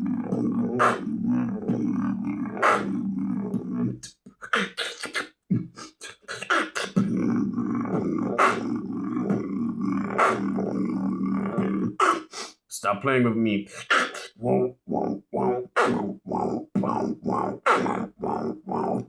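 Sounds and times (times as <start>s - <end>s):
vocal beatboxing: 0.0s - 12.6s, 13.6s - 19.0s.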